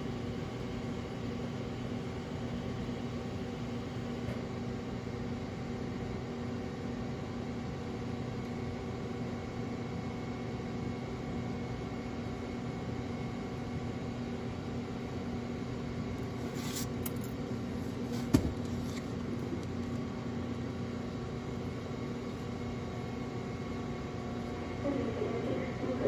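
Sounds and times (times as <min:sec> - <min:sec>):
mechanical hum of fan: 0:00.0 - 0:26.0.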